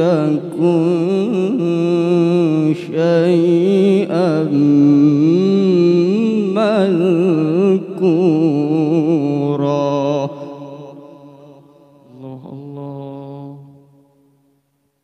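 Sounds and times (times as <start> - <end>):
man chanting into a microphone: 0.0 - 14.2
echo: 0.0 - 14.7.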